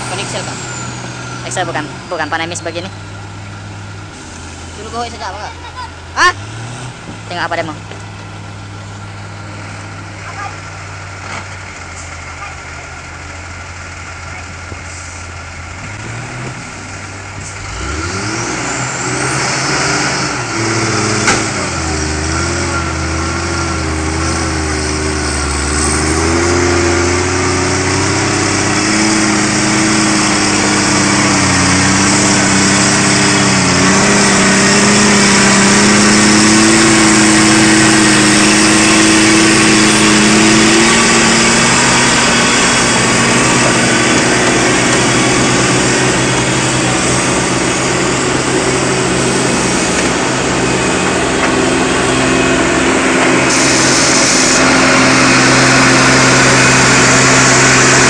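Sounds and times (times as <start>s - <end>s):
diesel truck engine pulling away: 0.0s - 58.0s.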